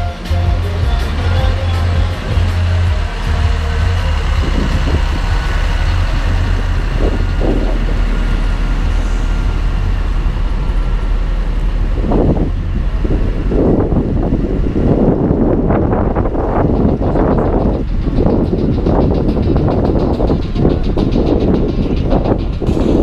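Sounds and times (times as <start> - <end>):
tractor engine driving past: 0.0 - 23.0
wind buffeting microphone: 0.0 - 23.0.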